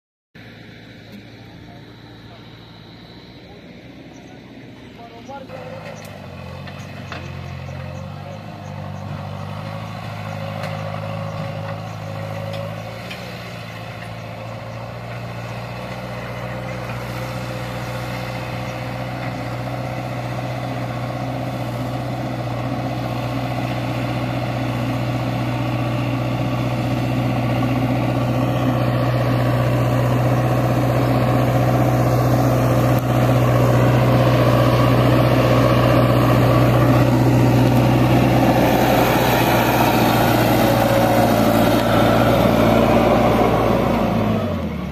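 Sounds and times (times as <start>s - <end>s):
heavy diesel engine running: 0.4s - 44.9s.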